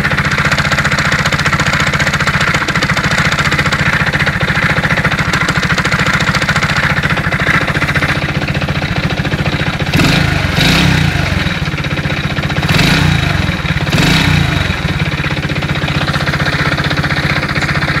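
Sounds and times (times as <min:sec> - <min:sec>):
car engine idling with knock: 0:00.0 - 0:18.0
engine revving: 0:00.0 - 0:18.0.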